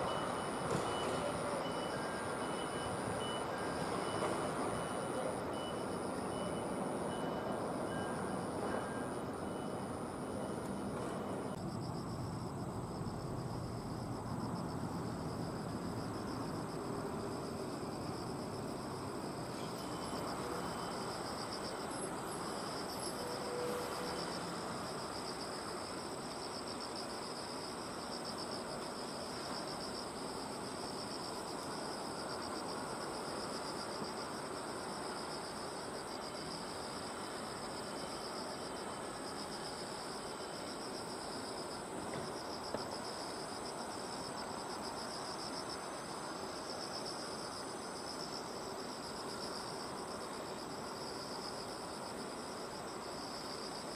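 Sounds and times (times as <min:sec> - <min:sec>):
outdoor background noise: 0:00.0 - 0:53.9.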